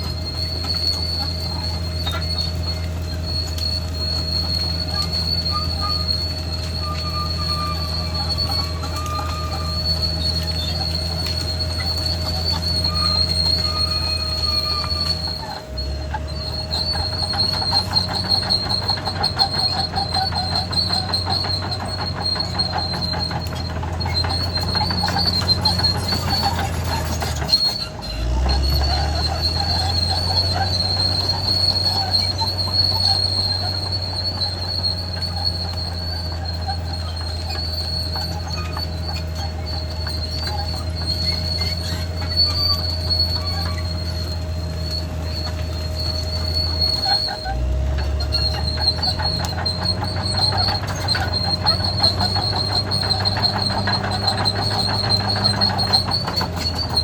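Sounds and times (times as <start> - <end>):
diesel engine running: 0.0 - 57.0
high-pitched undercarriage squeal: 0.0 - 57.0
steel tracks clattering: 0.0 - 57.0.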